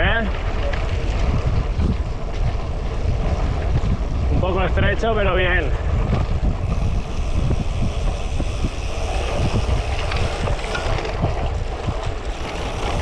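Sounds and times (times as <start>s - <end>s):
bike tyres rumbling on dirt: 0.0s - 13.0s
wind buffeting microphone: 0.0s - 13.0s.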